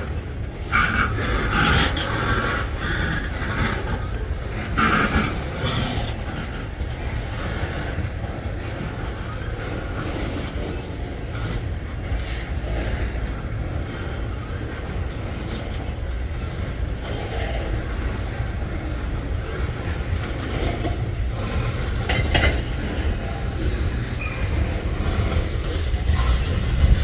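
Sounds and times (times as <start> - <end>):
freight train wheels rumbling: 0.0 - 27.0
train scrape: 0.0 - 27.0.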